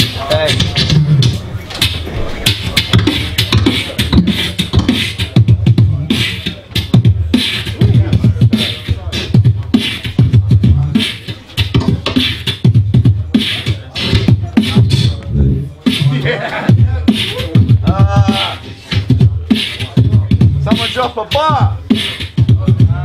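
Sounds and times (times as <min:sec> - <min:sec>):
amplified beatboxing: 0:00.0 - 0:23.0.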